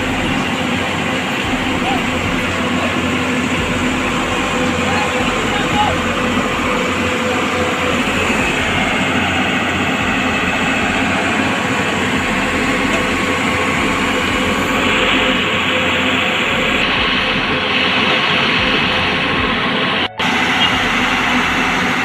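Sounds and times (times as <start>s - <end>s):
vehicle engine running loudly: 0.0s - 22.0s.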